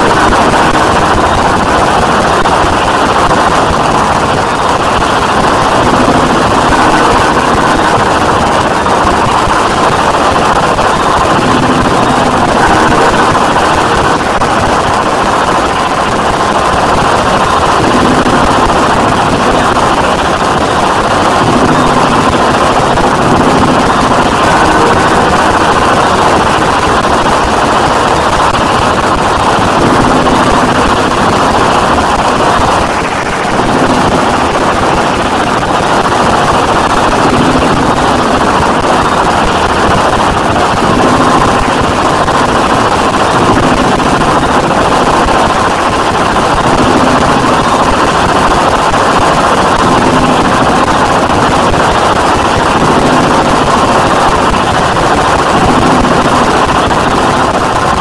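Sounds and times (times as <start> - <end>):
distorted noise music: 0.0 - 58.0.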